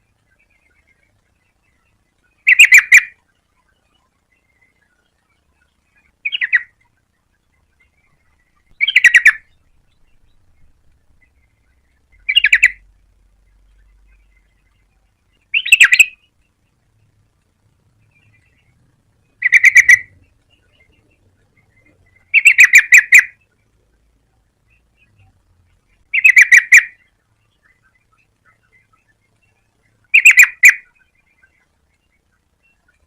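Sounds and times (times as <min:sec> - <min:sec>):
bulbul calling: 0:00.0 - 0:17.2, 0:17.9 - 0:33.0.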